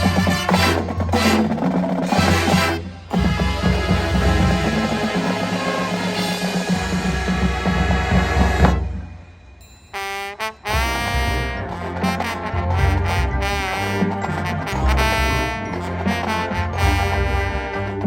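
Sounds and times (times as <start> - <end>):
brass sustained chords: 0.0 - 9.2, 10.0 - 18.0
low drums: 0.0 - 9.7, 10.6 - 18.0
marching band playing: 0.0 - 18.0.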